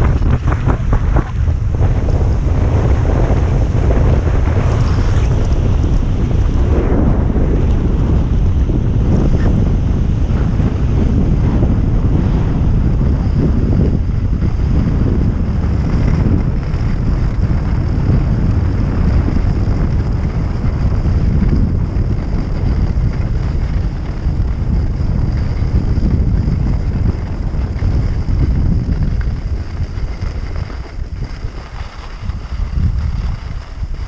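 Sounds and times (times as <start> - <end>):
skis running over snow: 0.0 - 34.0
wind buffeting microphone: 0.0 - 34.0.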